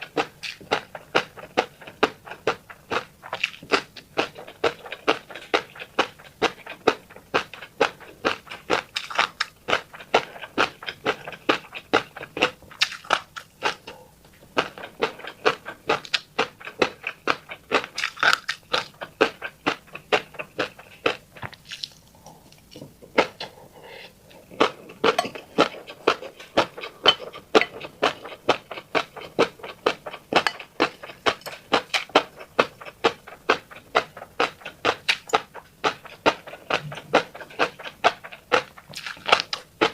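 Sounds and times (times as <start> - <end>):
wet chewing with popping eggs: 0.0 - 39.9.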